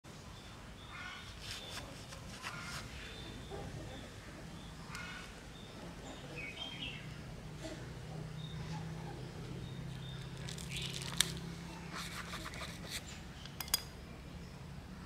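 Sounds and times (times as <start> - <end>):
low background noise: 0.1 - 15.0
small birds chirping: 0.1 - 15.0.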